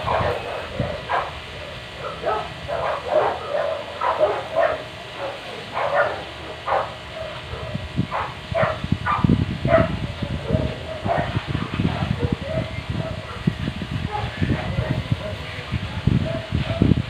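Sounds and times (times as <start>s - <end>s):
dog barking: 0.0s - 1.4s, 2.0s - 13.5s, 14.1s - 15.4s, 16.2s - 16.9s
low rumbling noise: 0.0s - 17.0s.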